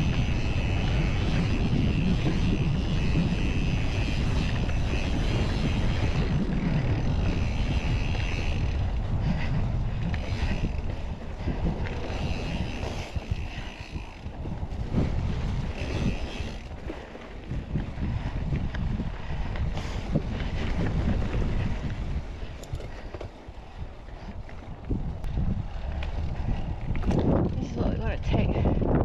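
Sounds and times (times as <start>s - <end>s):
bike rolling on dirt trail: 0.0s - 29.0s
wind buffeting microphone: 0.0s - 29.0s.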